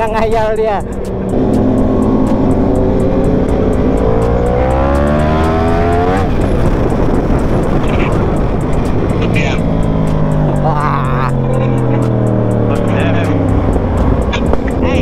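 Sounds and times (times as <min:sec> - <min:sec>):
heavy wind noise: 0:00.0 - 0:15.0
motorcycle engine accelerating: 0:00.0 - 0:15.0.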